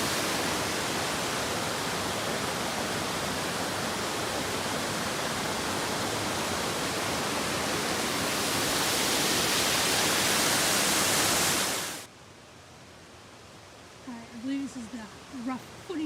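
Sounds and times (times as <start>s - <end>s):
brook water rushing: 0.0s - 16.0s.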